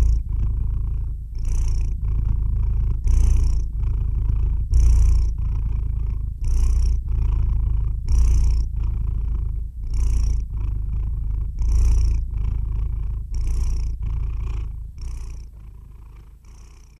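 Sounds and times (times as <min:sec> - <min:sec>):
cat breathing: 0:00.0 - 0:16.9
cat purring: 0:00.0 - 0:16.9.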